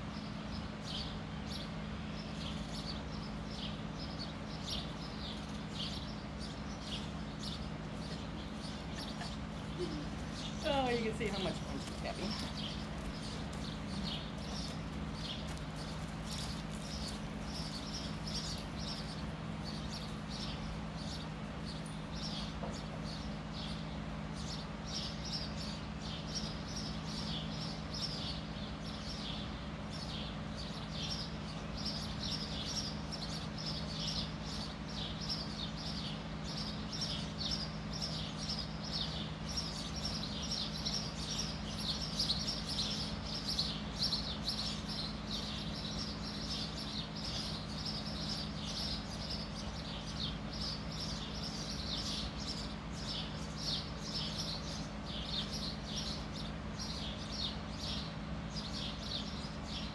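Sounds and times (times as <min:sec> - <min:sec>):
bird chirping: 0:00.0 - 0:59.9
steady low hum: 0:00.0 - 0:59.9.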